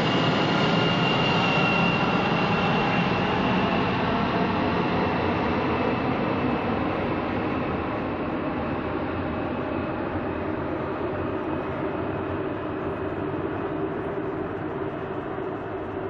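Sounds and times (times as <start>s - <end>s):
jet airliner engines rushing: 0.0s - 16.0s.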